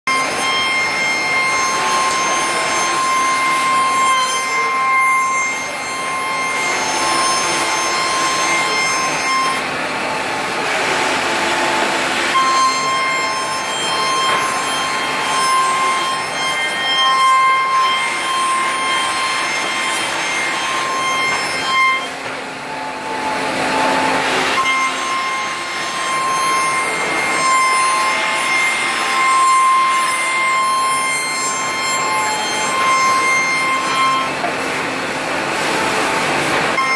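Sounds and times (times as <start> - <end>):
rasping wood cutting noise: 0.1 - 36.9
router spindle high whine: 0.1 - 36.9.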